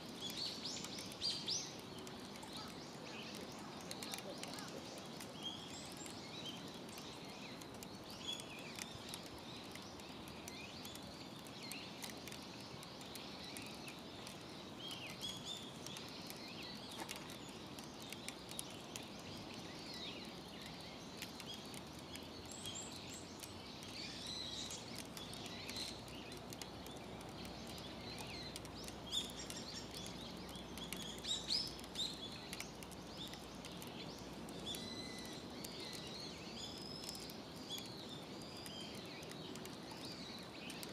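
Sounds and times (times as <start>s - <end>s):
outdoor background noise: 0.0s - 40.9s
small birds chirping and trilling: 0.0s - 40.9s.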